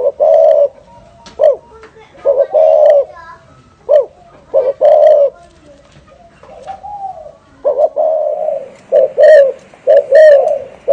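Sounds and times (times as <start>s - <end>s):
dove cooing: 0.0s - 10.9s.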